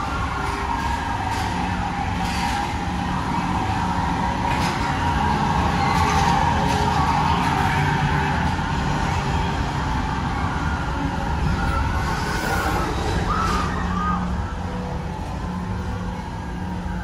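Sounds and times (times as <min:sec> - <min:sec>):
ride train humming and rumbling: 0:00.0 - 0:17.0.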